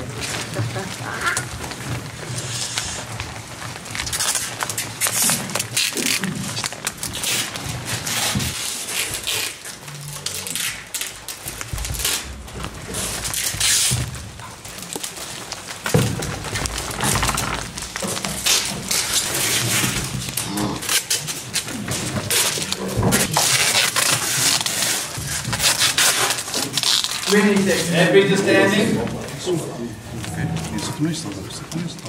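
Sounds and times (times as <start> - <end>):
paper rustling and crinkling: 0.0 - 32.0.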